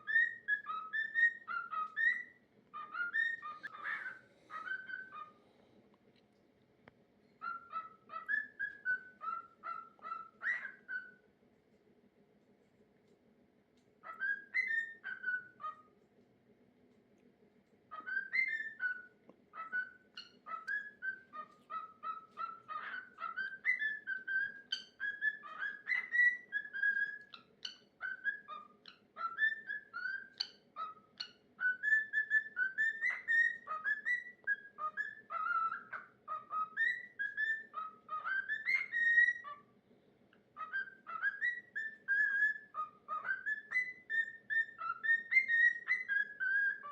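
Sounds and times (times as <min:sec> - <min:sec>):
cockatiel whistling song: 0:00.0 - 0:05.4, 0:07.4 - 0:11.2, 0:14.0 - 0:15.9, 0:17.9 - 0:39.7, 0:40.5 - 0:46.9.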